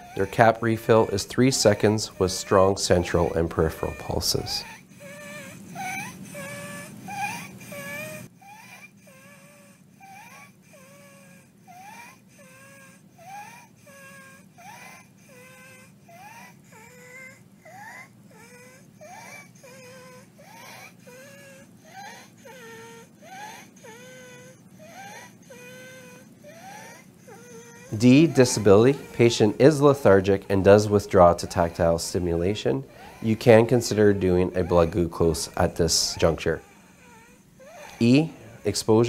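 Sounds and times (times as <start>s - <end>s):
infant high-pitched squeaky breathing: 0.0s - 39.0s
infant whimpering: 0.0s - 39.0s.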